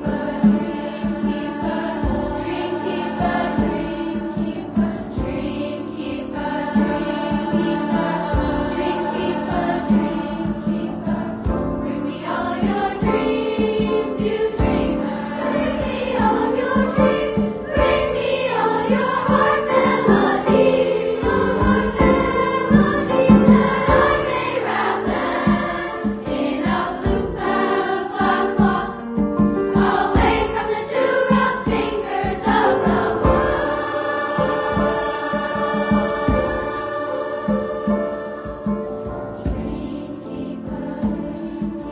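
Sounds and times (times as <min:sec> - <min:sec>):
choir singing in harmony: 0:00.0 - 0:41.9.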